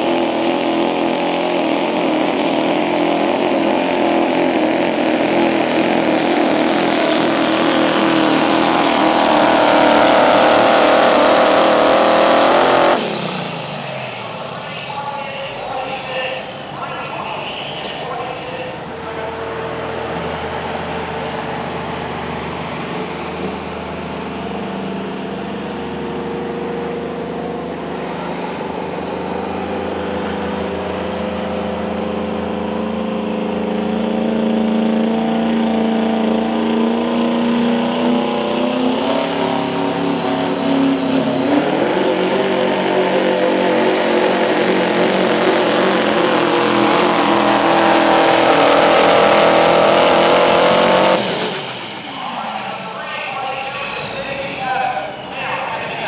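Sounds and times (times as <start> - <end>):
diesel truck engine running hard: 0.0 - 56.0.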